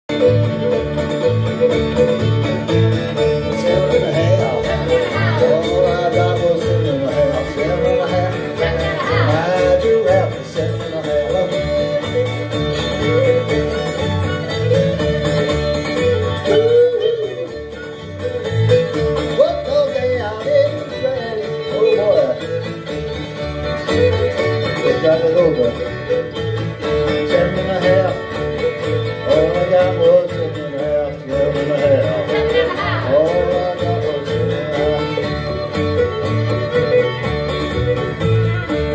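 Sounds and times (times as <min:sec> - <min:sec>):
acoustic guitar: 0:00.0 - 0:38.9
fiddle melody: 0:00.1 - 0:38.9.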